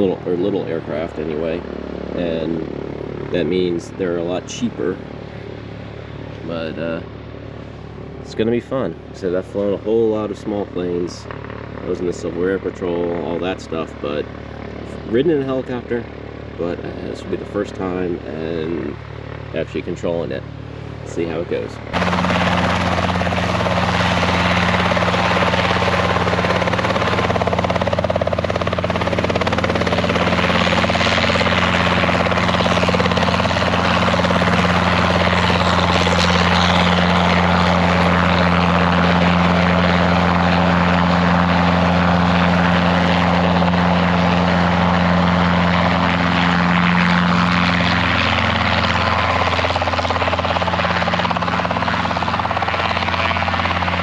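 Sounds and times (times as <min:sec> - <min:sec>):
helicopter rotor hum: 0:00.0 - 0:54.0.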